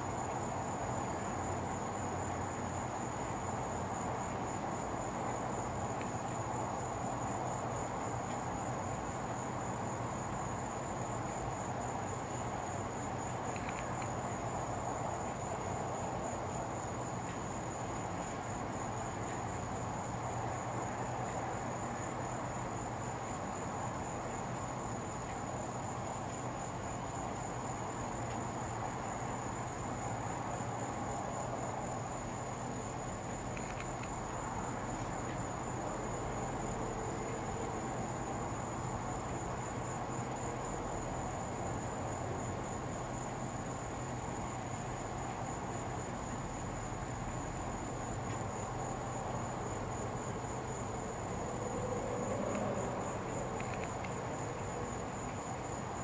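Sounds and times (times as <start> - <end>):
background hiss: 0.0 - 56.0
crickets trilling: 0.0 - 56.0.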